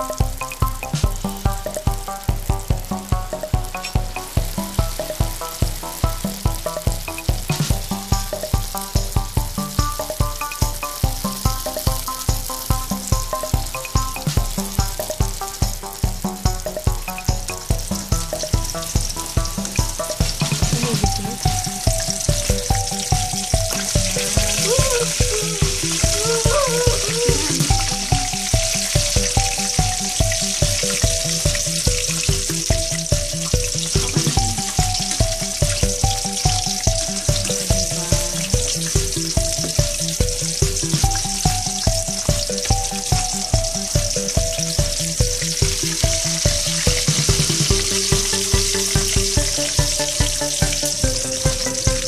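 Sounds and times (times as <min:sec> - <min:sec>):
background music with steady beat: 0:00.0 - 0:52.0
fish sizzling in hot oil: 0:00.0 - 0:52.0.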